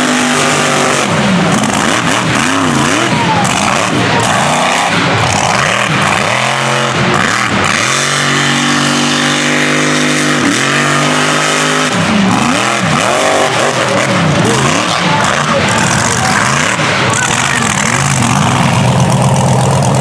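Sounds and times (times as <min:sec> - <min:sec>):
truck engine revving hard: 0:00.0 - 0:20.0.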